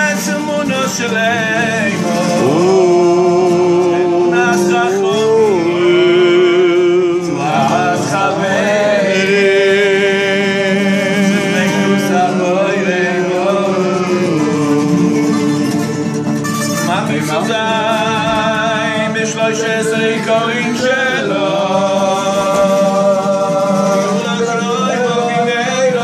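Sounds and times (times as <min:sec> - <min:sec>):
man singing long notes: 0:00.0 - 0:26.0
strummed acoustic guitars: 0:00.0 - 0:26.0.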